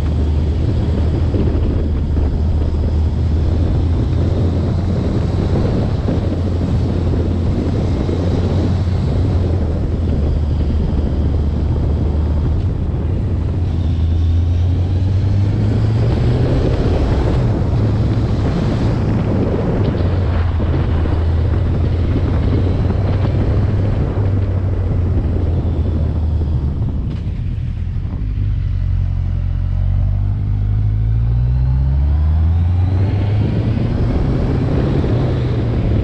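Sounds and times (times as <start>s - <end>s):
vehicle engine running: 0.0s - 36.0s
wind buffeting microphone: 0.0s - 36.0s.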